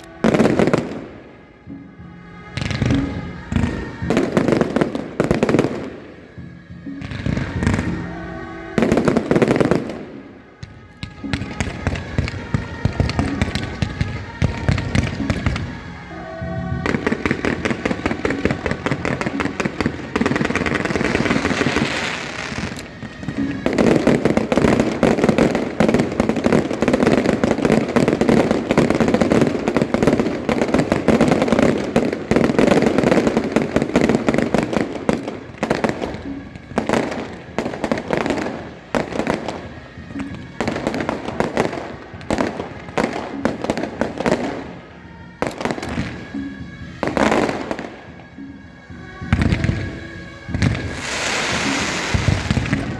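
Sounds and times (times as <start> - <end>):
fireworks crackling and banging: 0.0 - 52.9.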